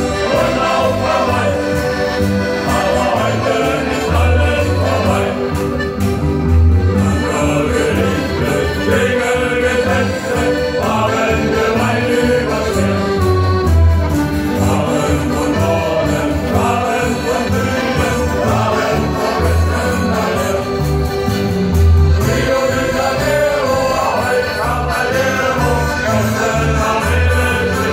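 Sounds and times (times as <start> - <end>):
accordions playing: 0.0 - 27.9
bass line: 0.0 - 27.9
men's choir singing: 0.0 - 27.9.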